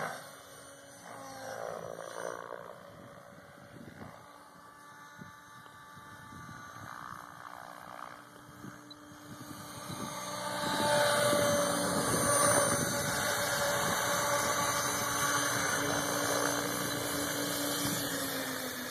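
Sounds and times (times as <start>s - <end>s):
model helicopter rotor whirring: 0.0s - 18.9s.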